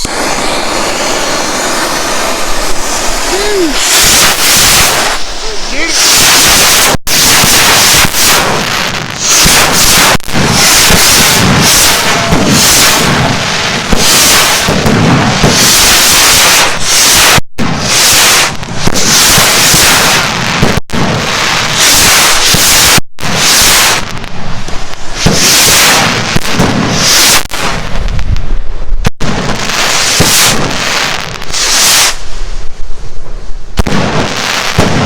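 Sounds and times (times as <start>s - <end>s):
firework rockets hissing launches: 0.0s - 35.0s
fireworks cracking bursts: 0.0s - 35.0s.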